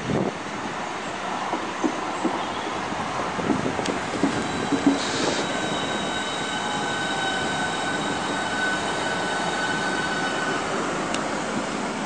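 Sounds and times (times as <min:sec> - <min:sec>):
train rushing running noise: 0:00.0 - 0:12.0.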